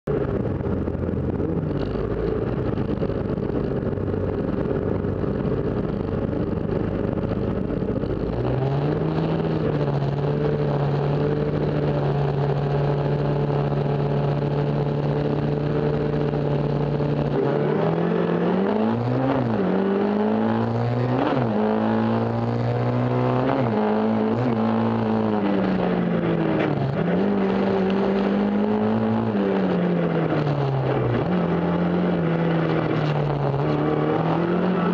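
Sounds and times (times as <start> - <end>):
car engine revving and accelerating: 0.1 - 34.9.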